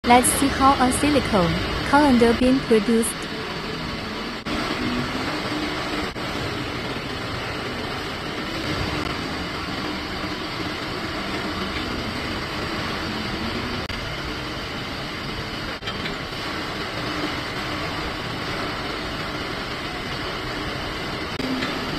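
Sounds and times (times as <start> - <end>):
injection moulding machine running: 0.0 - 21.9.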